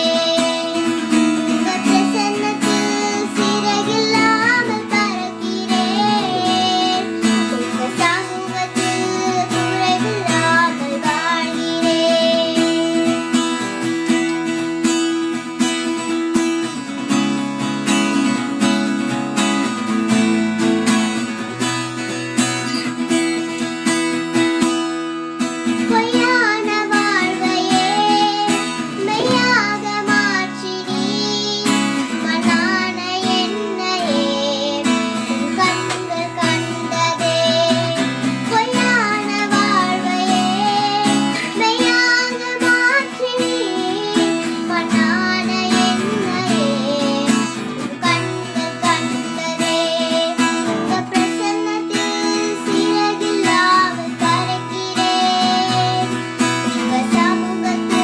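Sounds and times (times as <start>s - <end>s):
girl singing: 0.0s - 24.8s, 25.6s - 58.0s
strummed acoustic guitar: 0.0s - 58.0s.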